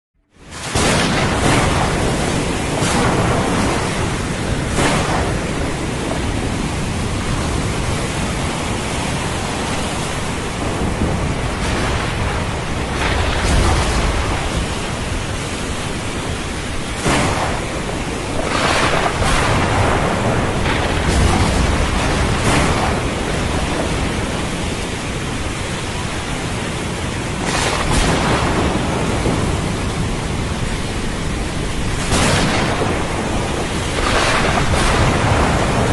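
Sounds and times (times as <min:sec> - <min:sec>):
heavy rain: 0:00.2 - 0:35.9
thunder cracking and rumbling: 0:00.3 - 0:35.9.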